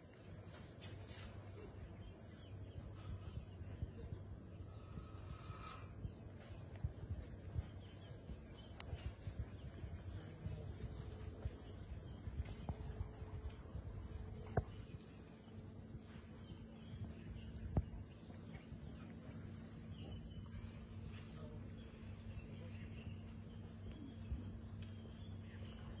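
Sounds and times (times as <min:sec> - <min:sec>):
high-pitched insect drone: 0:02.0 - 0:26.0.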